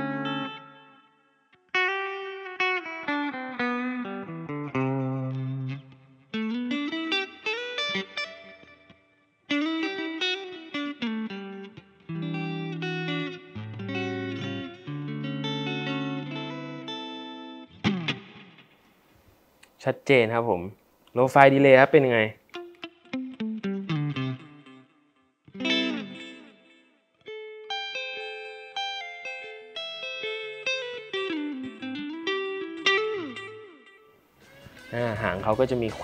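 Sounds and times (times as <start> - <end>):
electric guitar with delay: 0.0 - 18.7, 22.5 - 36.0.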